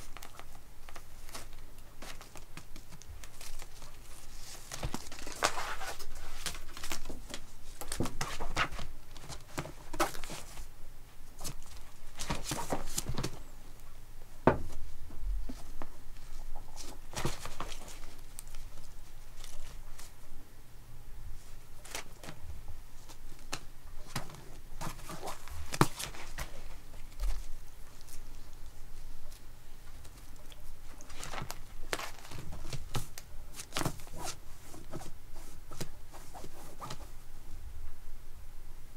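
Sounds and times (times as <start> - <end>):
rustling: 0.0 - 20.3, 21.3 - 37.3.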